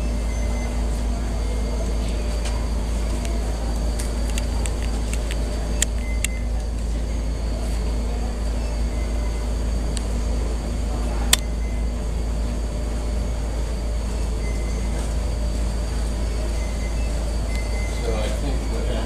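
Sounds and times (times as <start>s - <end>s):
faint steady whines: 0.0s - 19.0s
low airport rumble: 0.0s - 19.0s.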